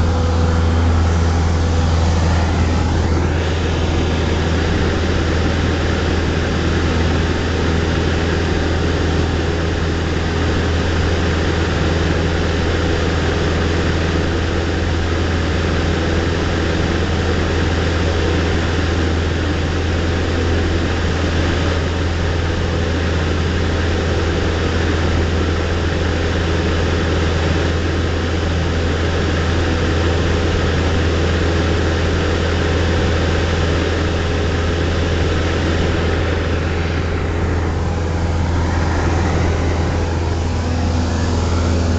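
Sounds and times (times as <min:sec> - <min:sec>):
light aircraft engine drone: 0:00.0 - 0:41.9.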